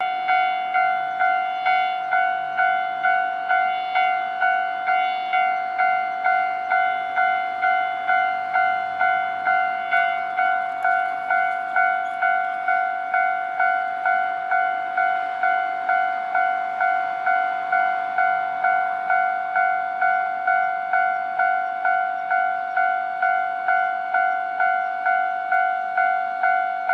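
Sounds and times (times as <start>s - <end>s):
level crossing warning bell: 0.0s - 26.9s.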